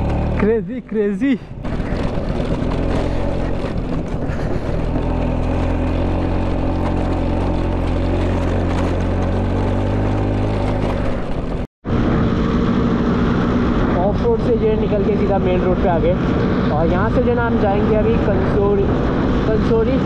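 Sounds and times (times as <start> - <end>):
scooter engine droning: 0.0 - 0.6, 1.4 - 20.0
road noise: 0.0 - 20.0
wind: 0.0 - 20.0.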